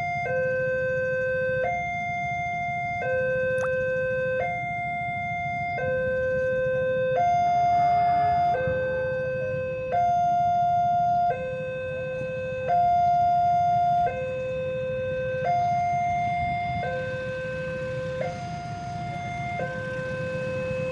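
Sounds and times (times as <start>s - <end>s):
two-tone warning siren: 0.0s - 20.9s.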